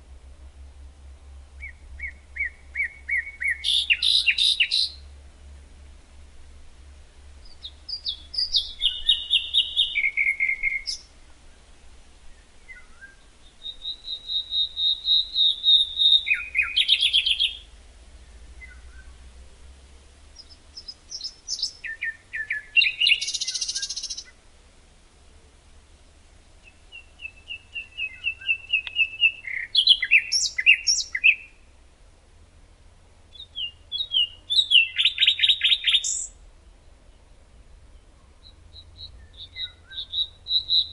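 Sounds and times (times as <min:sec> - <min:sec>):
songbird trilling song: 0:01.3 - 0:05.7, 0:07.1 - 0:19.3, 0:20.3 - 0:24.4, 0:26.6 - 0:31.7, 0:33.3 - 0:40.9.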